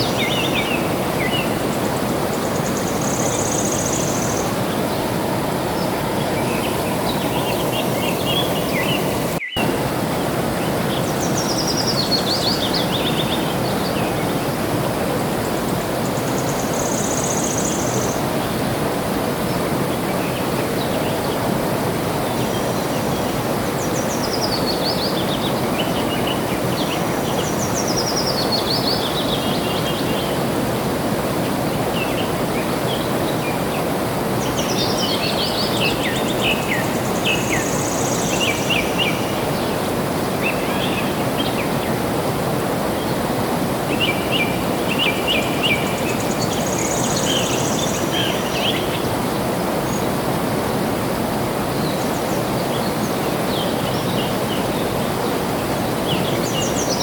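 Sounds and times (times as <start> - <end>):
water flowing: 0.0 - 57.0.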